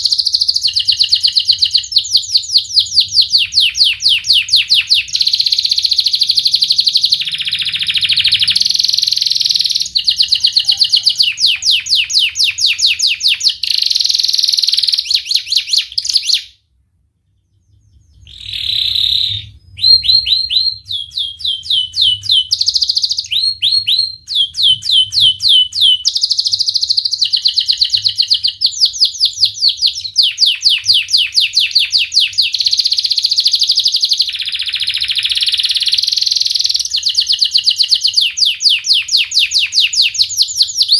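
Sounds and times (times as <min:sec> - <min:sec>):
canary singing trills: 0:00.0 - 0:16.6, 0:17.2 - 0:40.9.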